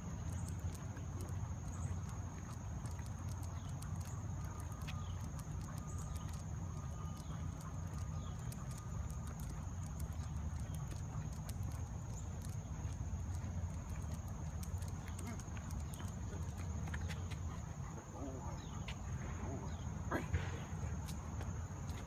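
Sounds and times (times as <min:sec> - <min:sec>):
footsteps on asphalt: 0:00.0 - 0:22.0
steady low rumble: 0:00.0 - 0:22.0.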